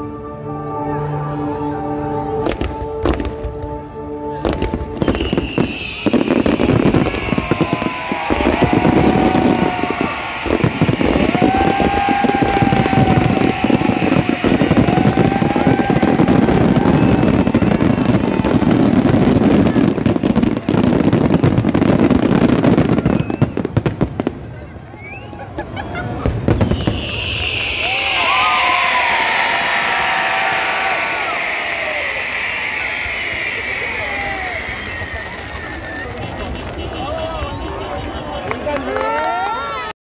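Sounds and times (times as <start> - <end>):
fireworks bangs and crackling: 2.4 - 3.8, 4.4 - 24.8, 26.1 - 39.7.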